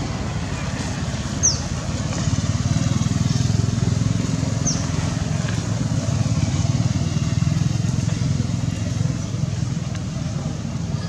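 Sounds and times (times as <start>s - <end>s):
motor engine rumbling: 0.0s - 11.0s.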